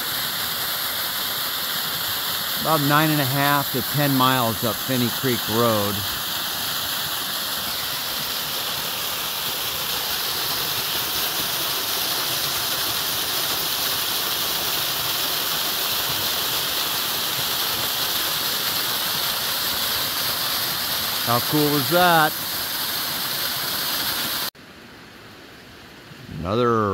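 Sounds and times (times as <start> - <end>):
small waterfall rushing over rocks: 0.0 - 25.2.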